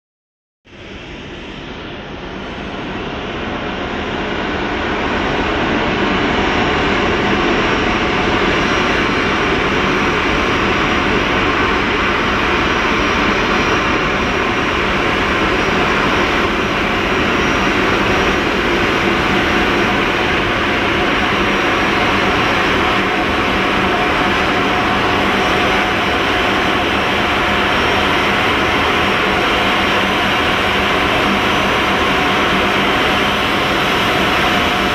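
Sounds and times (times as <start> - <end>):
jet engines at taxi power: 0.7 - 34.9.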